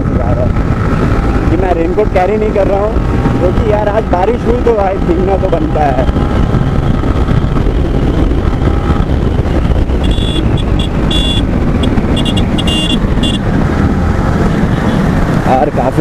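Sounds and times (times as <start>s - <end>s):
motorcycle engine and road noise: 0.0s - 16.0s
wind rushing over microphone: 0.0s - 16.0s.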